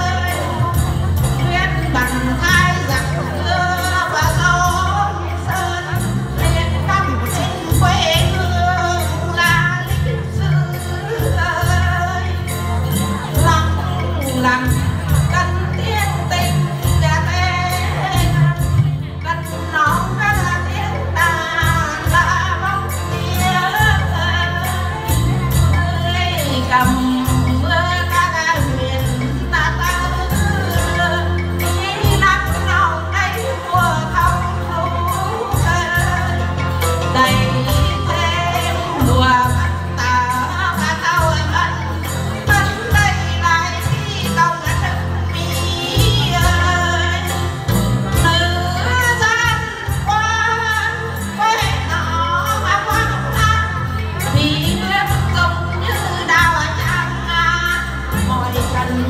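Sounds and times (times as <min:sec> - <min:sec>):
accompaniment with strong bass: 0:00.0 - 0:59.0
women singing folk song: 0:00.0 - 0:59.0.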